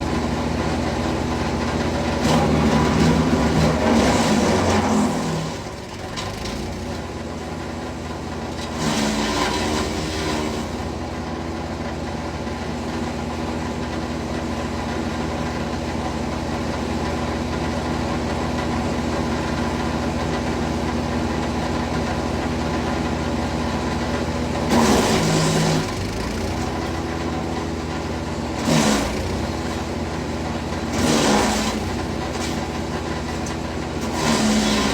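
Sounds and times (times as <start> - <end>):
wood chipper engine running: 0.0 - 34.9.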